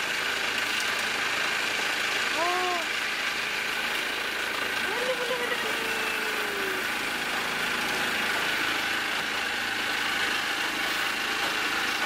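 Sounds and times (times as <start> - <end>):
motor boat engine drone: 0.0 - 12.0.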